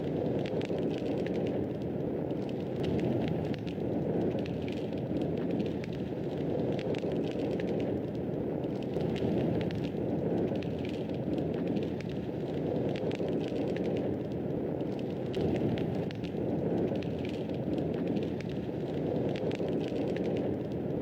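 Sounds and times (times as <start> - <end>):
fire crackles and pops: 0.0 - 21.0
wood fire roaring: 0.0 - 21.0.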